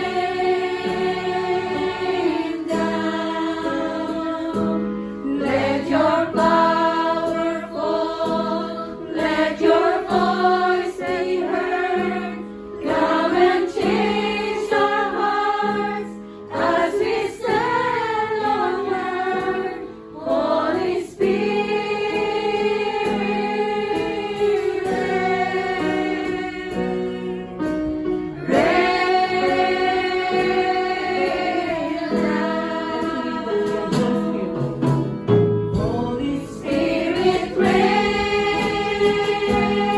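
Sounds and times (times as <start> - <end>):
choir singing gospel song: 0.0 - 34.9, 35.7 - 39.9.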